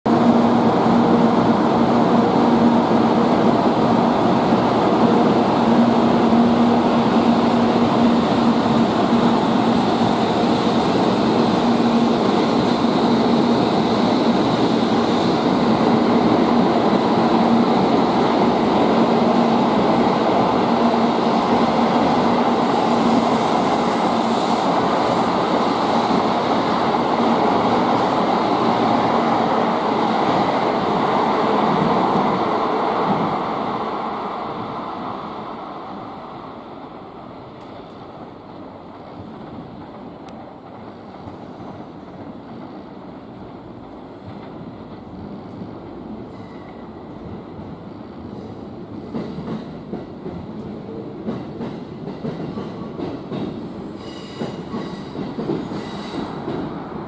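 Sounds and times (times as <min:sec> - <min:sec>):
high-speed train departing: 0:00.1 - 0:57.0.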